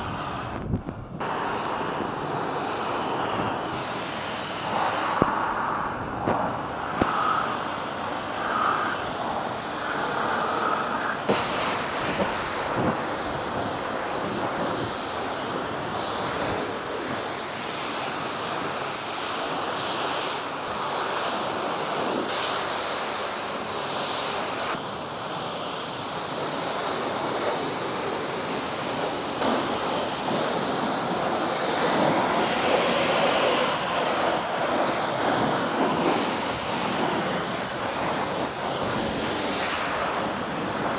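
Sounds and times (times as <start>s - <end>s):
pressure washer spraying water: 0.0s - 40.9s.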